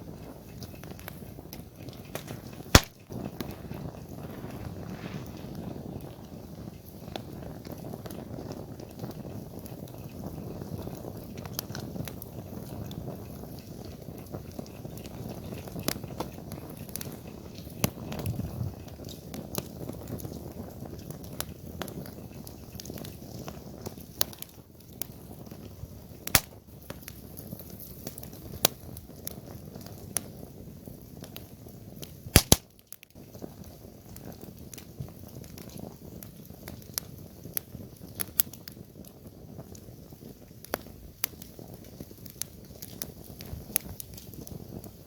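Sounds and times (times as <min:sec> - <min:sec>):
burning wood crackling and popping: 0:00.0 - 0:45.0
campfire flames rushing: 0:00.0 - 0:45.0.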